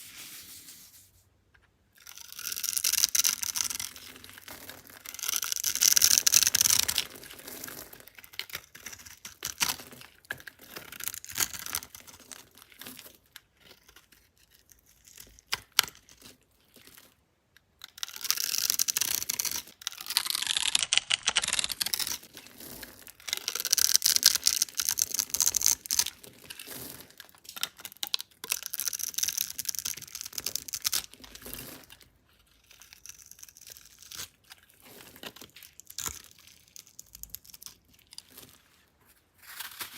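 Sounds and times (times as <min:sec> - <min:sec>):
dry soap crunching: 0:02.0 - 0:17.2, 0:17.8 - 0:39.9.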